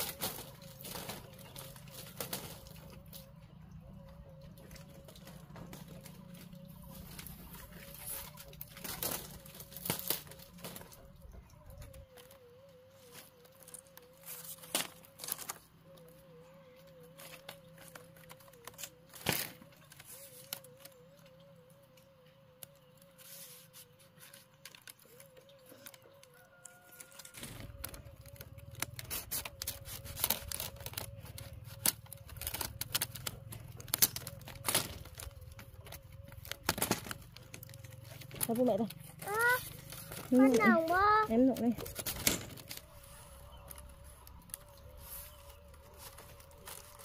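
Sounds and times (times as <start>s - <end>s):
bamboo strips clicking and knocking: 0.0s - 16.2s, 17.1s - 47.0s.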